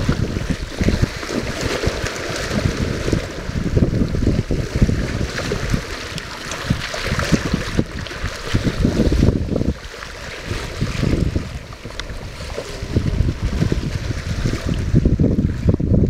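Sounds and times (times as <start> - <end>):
water splashing along a hull: 0.0 - 16.0
wind buffeting microphone: 0.0 - 16.0.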